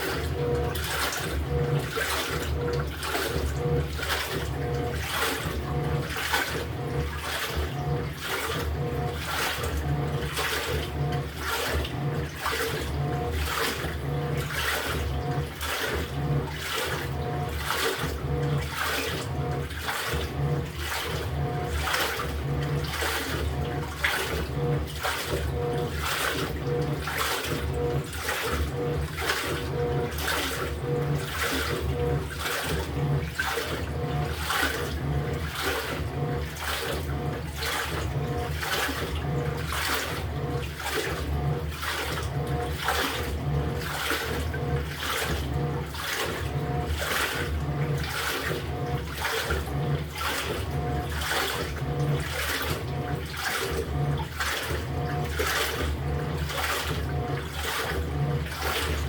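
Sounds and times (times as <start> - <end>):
washing machine motor hum: 0.0 - 59.0
washing machine sloshing water: 0.0 - 59.0.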